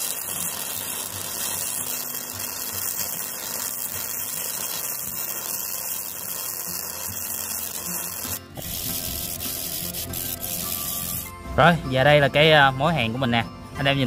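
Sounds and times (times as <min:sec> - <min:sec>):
welder arc buzzing: 0:00.0 - 0:11.4.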